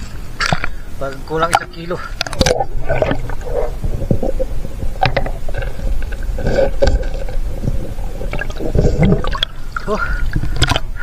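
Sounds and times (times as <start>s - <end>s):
water sloshing and bubbling: 0.0s - 11.0s.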